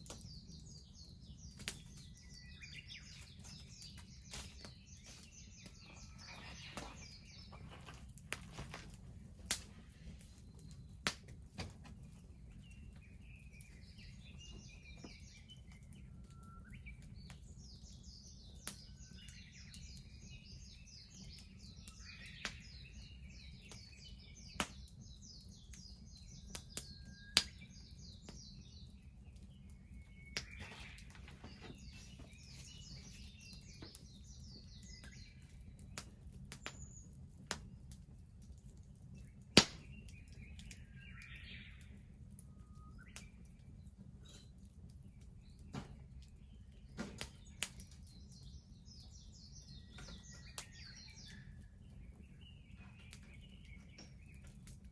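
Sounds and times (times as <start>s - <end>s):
bonfire crackling and popping: 0.0s - 54.9s
songbirds trilling and chirping: 0.0s - 54.9s.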